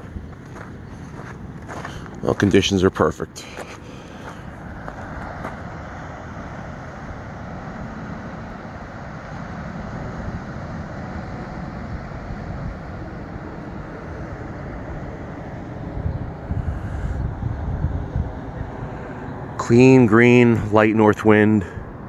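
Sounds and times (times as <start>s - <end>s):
steady outdoor rush: 0.0s - 22.0s
wind buffeting microphone: 0.0s - 22.0s.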